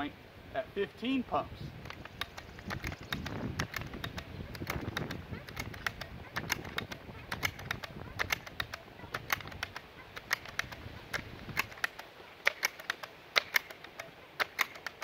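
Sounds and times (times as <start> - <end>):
air rifle pump strokes: 1.8 - 15.0
sharp clicks: 1.8 - 15.0.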